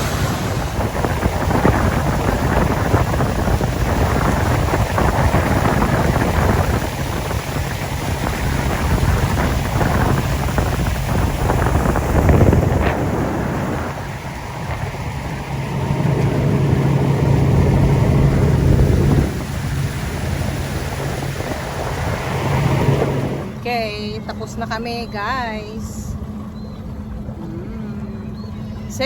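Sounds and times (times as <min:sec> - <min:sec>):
boat motor running: 0:00.0 - 0:29.0
wind buffeting microphone: 0:00.0 - 0:29.0.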